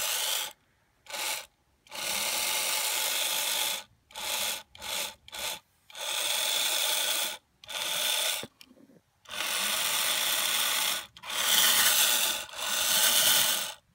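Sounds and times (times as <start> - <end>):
small electric motor and gears buzzing: 0.0 - 8.6, 9.2 - 13.9.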